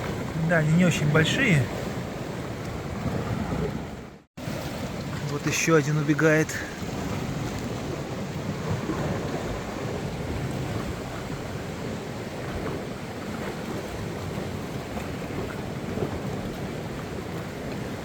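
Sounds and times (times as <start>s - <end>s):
wind buffeting microphone: 0.0s - 5.5s, 6.6s - 18.0s
sea surf: 0.0s - 18.0s.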